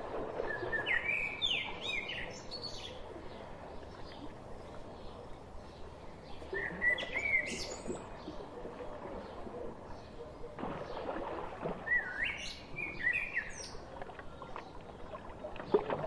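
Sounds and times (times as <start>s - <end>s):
songbird chirping: 0.4s - 16.0s.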